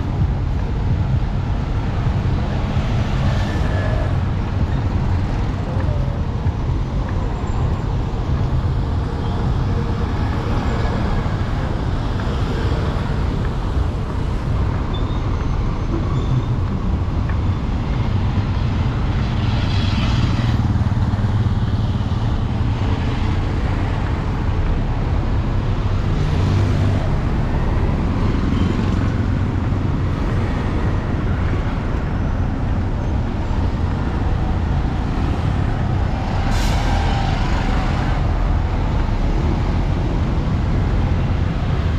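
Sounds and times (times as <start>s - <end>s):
traffic engines humming: 0.0s - 41.9s
vehicles passing close: 0.0s - 41.9s.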